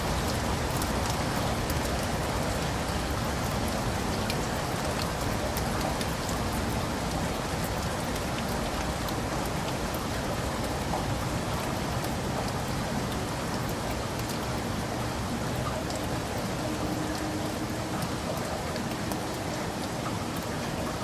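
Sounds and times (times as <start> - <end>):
heavy rain: 0.0 - 21.0
raindrops ticking on surfaces: 0.0 - 21.0.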